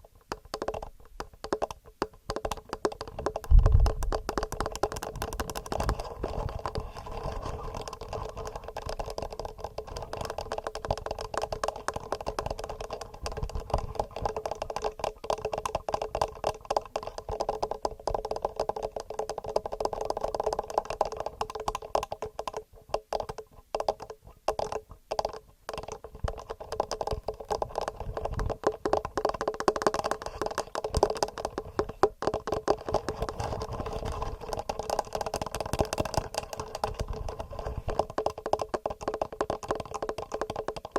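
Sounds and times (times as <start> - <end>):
fingernails tapping microphones: 0.0 - 40.9.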